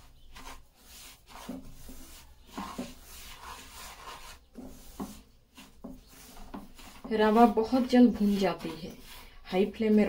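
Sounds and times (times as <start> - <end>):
spatula scraping semolina in pan: 0.0 - 10.0.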